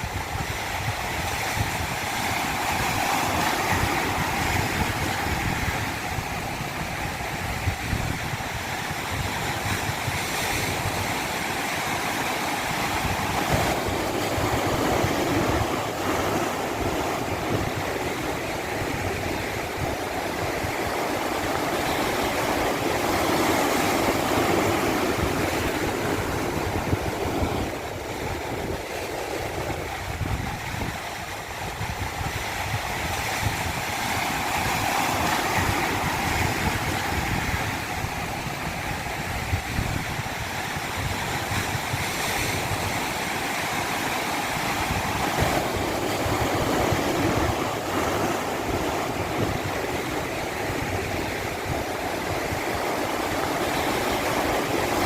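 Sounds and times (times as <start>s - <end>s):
stream water rushing over rocks: 0.0s - 55.0s.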